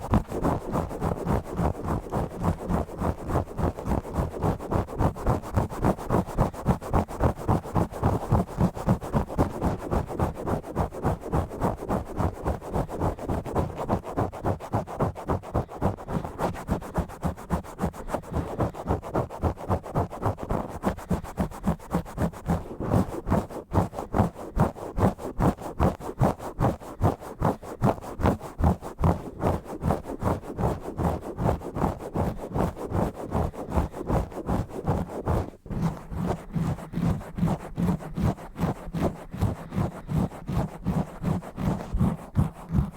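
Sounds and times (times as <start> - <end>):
fingers scratching on microphone: 0.0 - 42.9.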